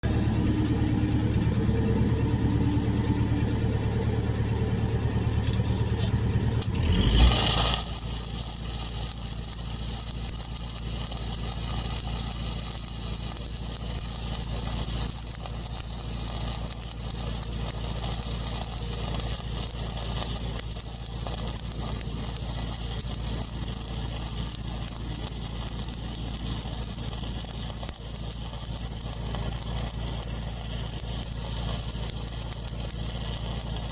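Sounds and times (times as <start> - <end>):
low machine hum: 0.0 - 33.9
welding arc crackling: 6.6 - 33.9.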